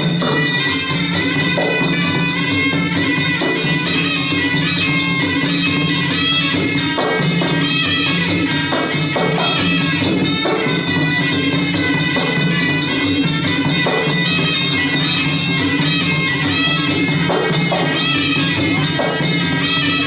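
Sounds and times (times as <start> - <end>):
drum strokes: 0.0 - 20.0.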